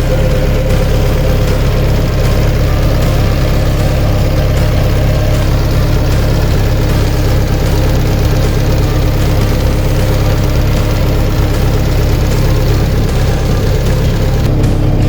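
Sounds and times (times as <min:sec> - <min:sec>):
diesel excavator engine idling: 0:00.0 - 0:15.0.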